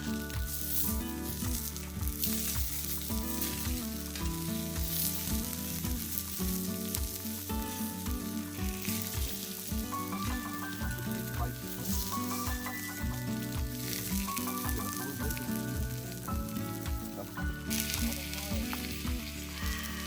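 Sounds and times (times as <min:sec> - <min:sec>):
background music with a beat: 0:00.0 - 0:20.0
food sizzling on a barbecue: 0:00.0 - 0:20.0.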